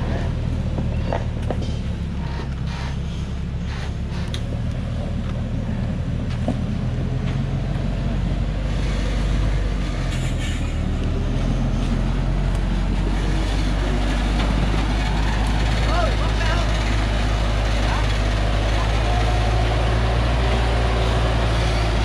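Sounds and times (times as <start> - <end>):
truck diesel engine under load: 0.0 - 22.0.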